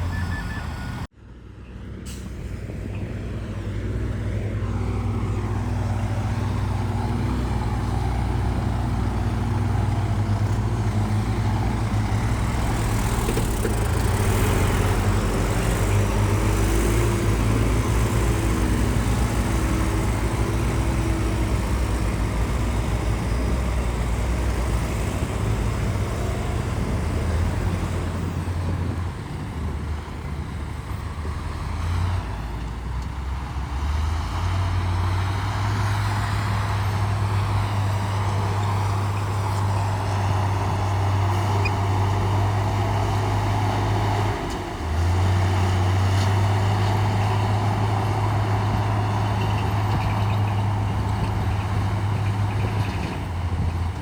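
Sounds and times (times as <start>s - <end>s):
heavy diesel engine running: 2.0s - 54.0s.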